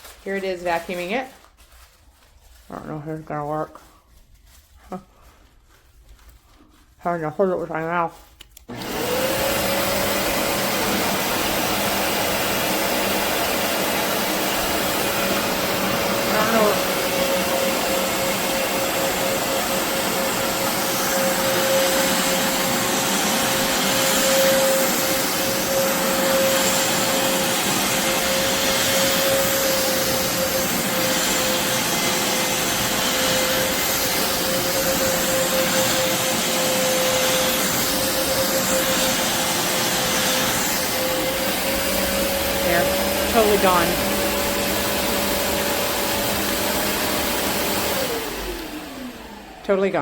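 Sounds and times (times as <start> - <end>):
carpet shampooer running: 6.4 - 50.0.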